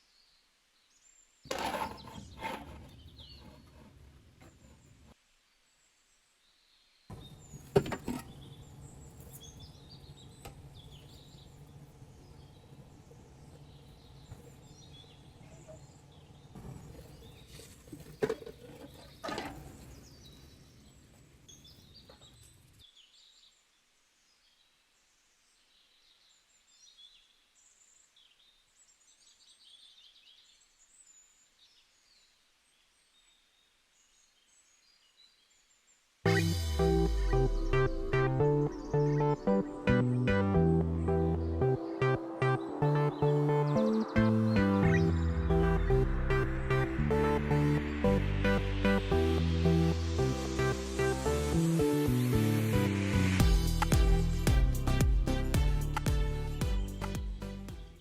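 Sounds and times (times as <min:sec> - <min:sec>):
birds chirping faintly: 0:00.0 - 0:58.0.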